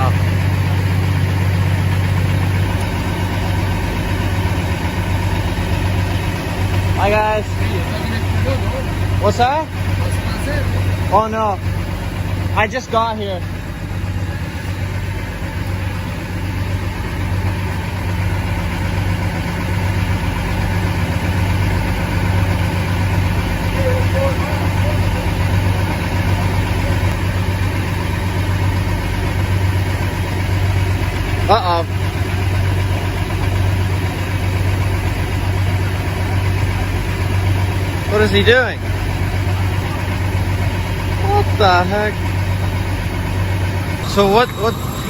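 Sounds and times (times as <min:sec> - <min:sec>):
truck engine idling: 0:00.0 - 0:45.0.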